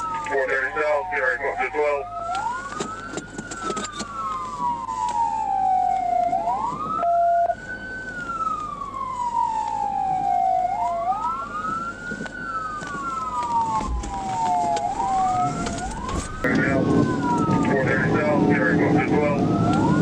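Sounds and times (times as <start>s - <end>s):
police siren wailing: 0.0s - 20.0s.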